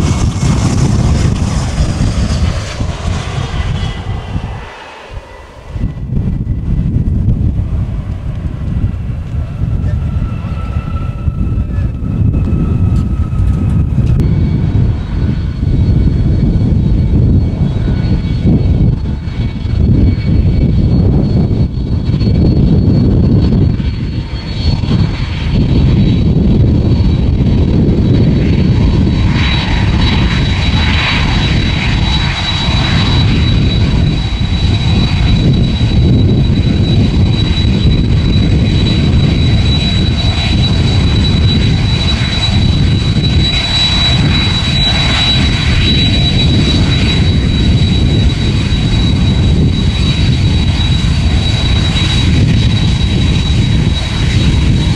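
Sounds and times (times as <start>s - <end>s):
high jet whine: 0.0s - 54.9s
jet engines running: 0.0s - 54.9s
low rumble: 0.0s - 54.9s.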